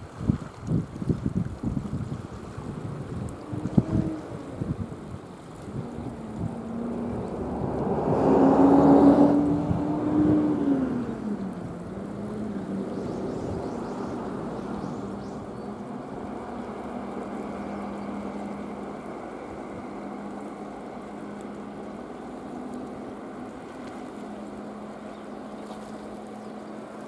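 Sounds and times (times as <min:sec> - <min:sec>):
boat engine humming: 0:00.0 - 0:27.0
wash of noise: 0:00.0 - 0:27.0.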